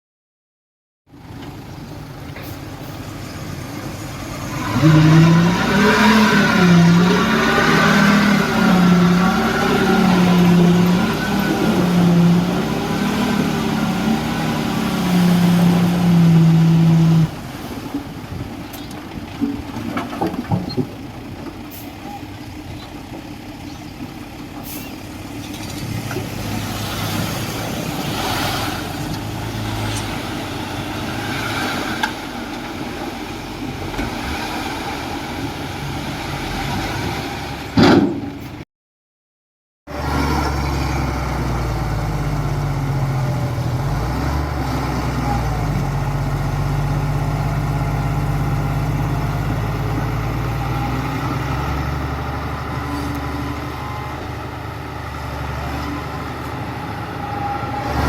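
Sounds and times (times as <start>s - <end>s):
heavy diesel engine under load: 1.1s - 38.6s, 39.9s - 58.0s.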